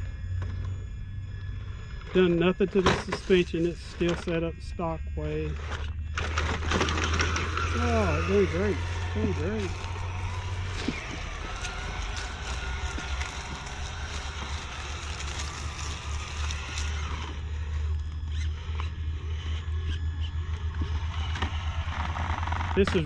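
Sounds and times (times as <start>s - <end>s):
electric motor whining: 0.0s - 23.0s
low rumble: 0.0s - 23.0s.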